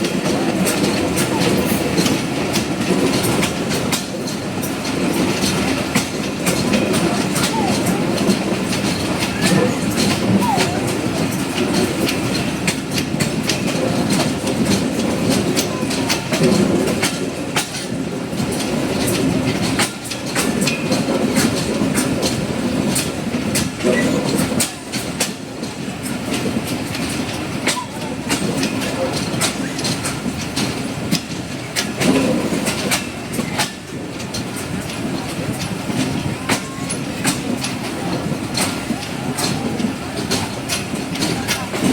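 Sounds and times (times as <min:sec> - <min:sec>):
train rumble: 0:00.0 - 0:41.9
train wheels clacking over rail joints: 0:00.0 - 0:41.9.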